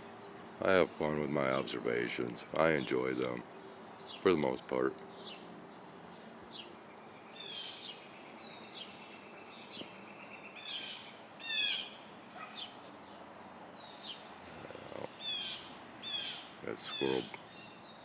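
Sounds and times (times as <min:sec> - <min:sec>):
wild birds calling: 0:00.0 - 0:18.0.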